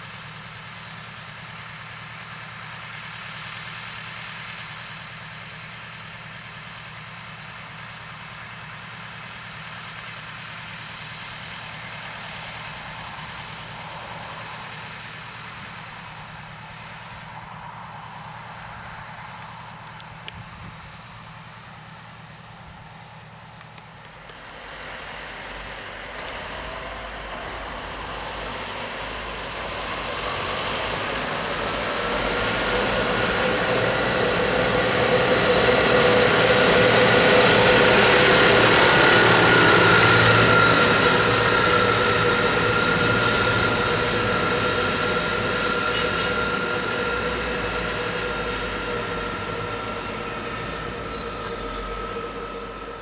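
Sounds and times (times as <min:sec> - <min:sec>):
tractor diesel engine: 0:00.0 - 0:53.0
steady whine: 0:04.0 - 0:53.0.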